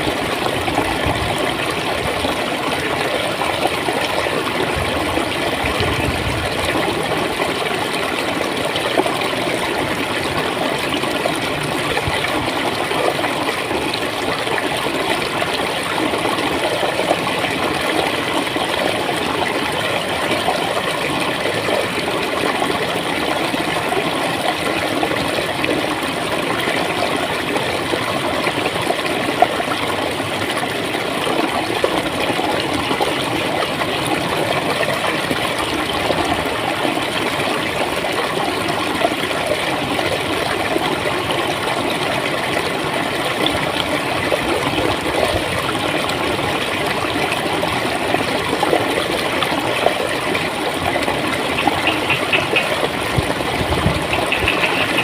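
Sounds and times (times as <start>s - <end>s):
water flowing and gurgling: 0.0s - 55.0s.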